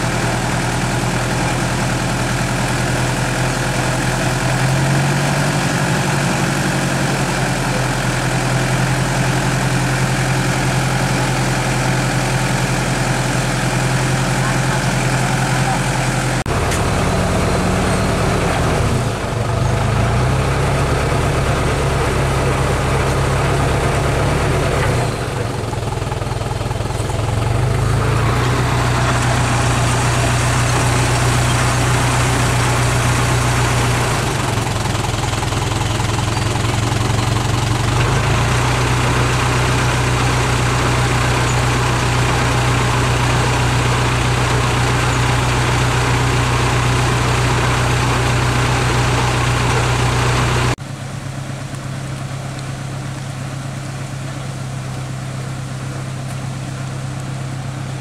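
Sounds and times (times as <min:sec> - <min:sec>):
diesel truck engines running: 0:00.0 - 0:58.0.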